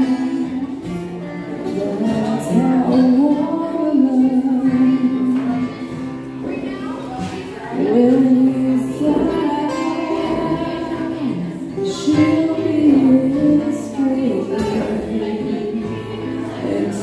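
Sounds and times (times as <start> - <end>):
acoustic guitars: 0.0 - 17.0
woman singing: 0.0 - 17.0.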